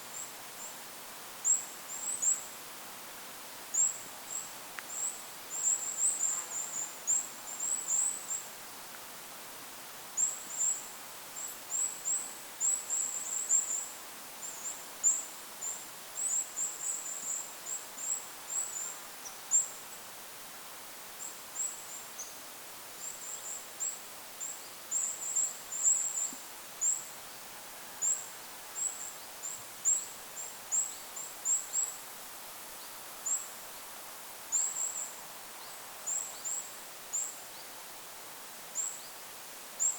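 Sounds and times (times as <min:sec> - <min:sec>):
wind hiss: 0:00.0 - 0:39.9.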